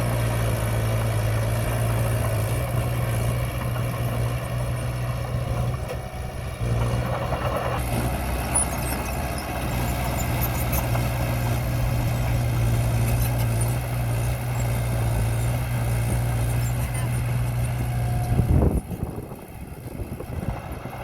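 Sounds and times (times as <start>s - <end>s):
heavy diesel engine humming: 0.0s - 21.0s.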